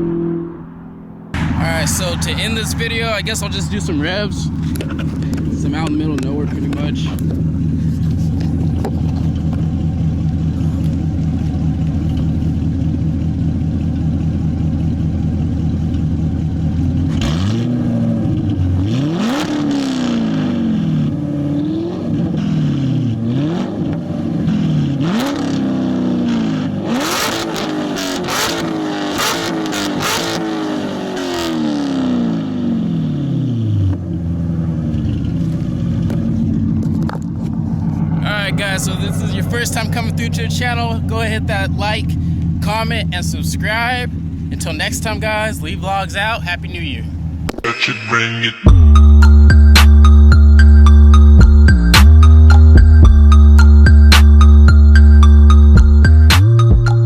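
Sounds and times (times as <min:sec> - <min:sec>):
car engine revving: 0:00.0 - 0:57.0
car engine idling: 0:00.5 - 0:47.7
exhaust cracks: 0:00.5 - 0:47.7.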